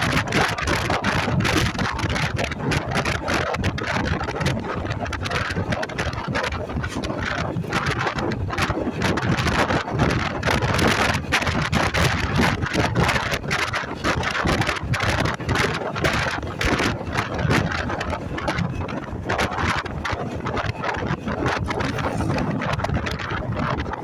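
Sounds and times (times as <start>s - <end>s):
road noise: 0.0s - 24.0s
wind buffeting microphone: 0.0s - 24.0s.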